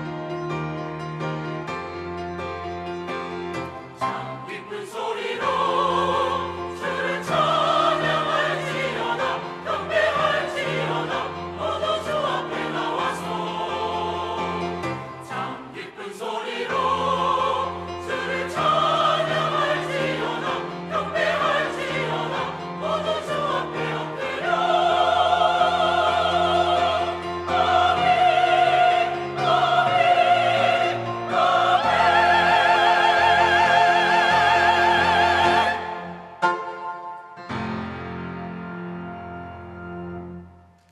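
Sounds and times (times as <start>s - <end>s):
church choir singing: 2.4s - 40.8s.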